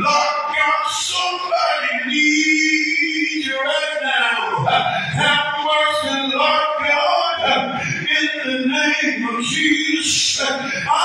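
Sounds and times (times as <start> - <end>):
man chanting: 0.0 - 11.0.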